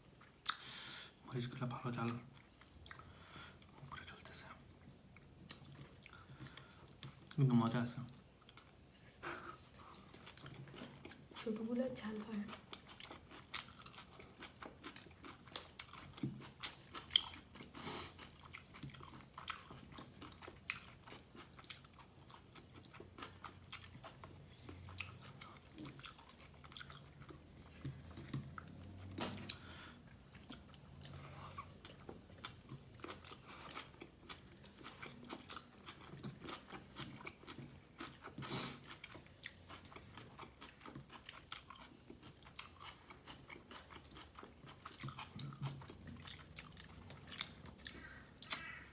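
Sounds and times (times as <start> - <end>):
person chewing food: 2.1 - 7.4, 8.0 - 11.5, 12.5 - 48.9.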